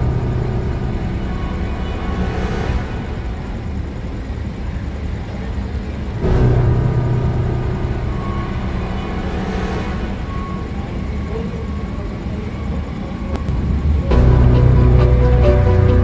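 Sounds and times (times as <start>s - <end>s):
ship engines humming: 0.0s - 16.0s.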